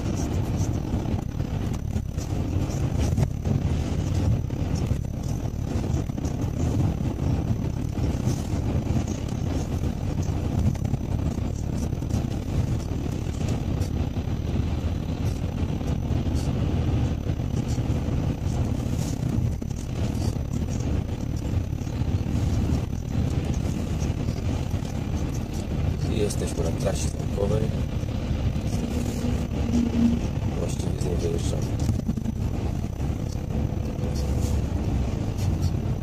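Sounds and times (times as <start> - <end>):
car road noise on wet road: 0.0 - 36.0.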